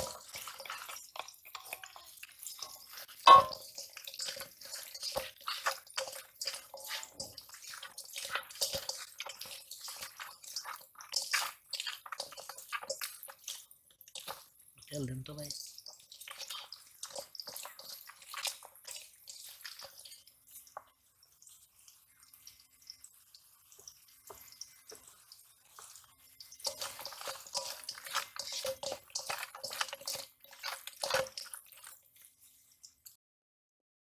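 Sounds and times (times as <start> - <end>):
hand squelching fish in paste: 0.0 - 14.8, 15.5 - 33.0.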